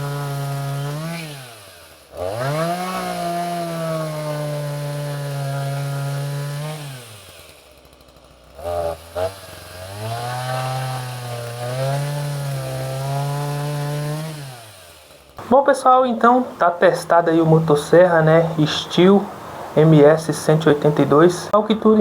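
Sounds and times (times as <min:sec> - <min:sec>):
chainsaw revving and idling: 0:00.0 - 0:21.9
chainsaw cutting wood: 0:00.0 - 0:22.0.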